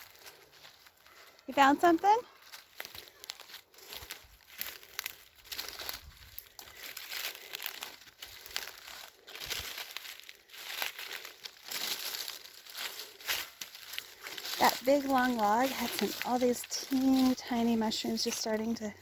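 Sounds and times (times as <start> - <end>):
dry leaves crackling underfoot: 0.0 - 19.0.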